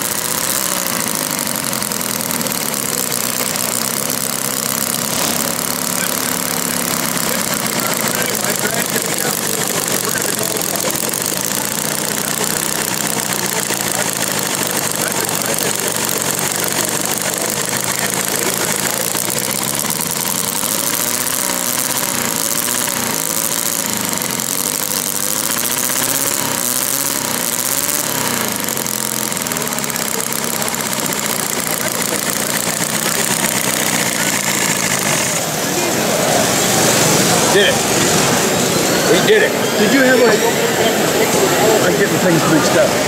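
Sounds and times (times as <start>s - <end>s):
model engine running: 0.0s - 43.0s.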